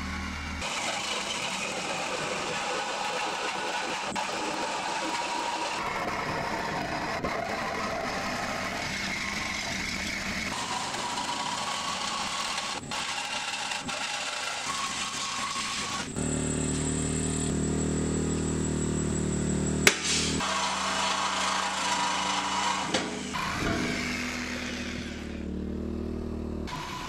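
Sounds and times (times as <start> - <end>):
reciprocating saw cutting steel: 0.3 - 25.5, 26.7 - 27.0.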